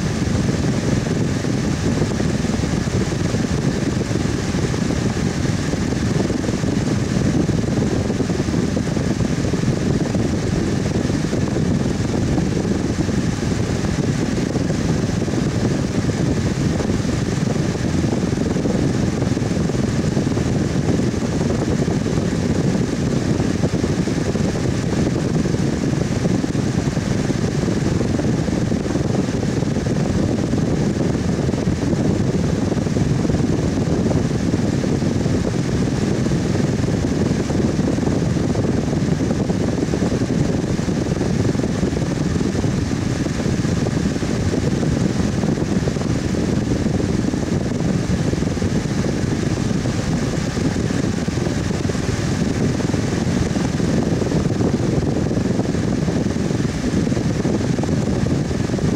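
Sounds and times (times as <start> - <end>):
faint motor hum: 0.0 - 58.9
fan air whoosh: 0.0 - 58.9.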